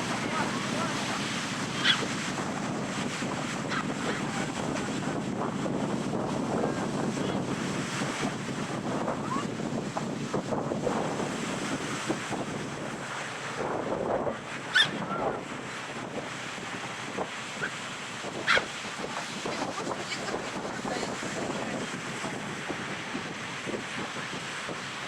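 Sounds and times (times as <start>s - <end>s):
ocean surf on beach: 0.0s - 25.0s
wind rumbling on microphone: 0.0s - 25.0s.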